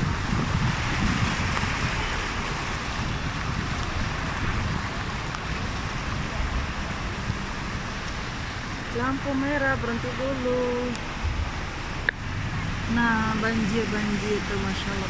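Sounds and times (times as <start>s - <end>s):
car tyres splashing through water: 0.0s - 15.0s.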